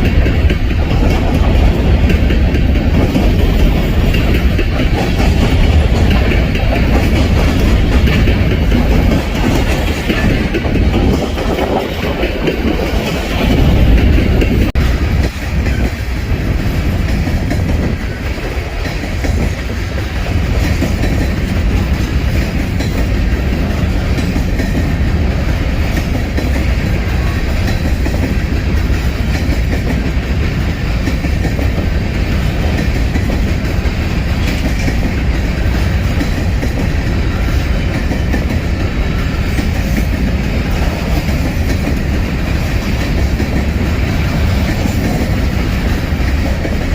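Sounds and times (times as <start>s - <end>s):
freight train wheels on rails: 0.0s - 46.9s.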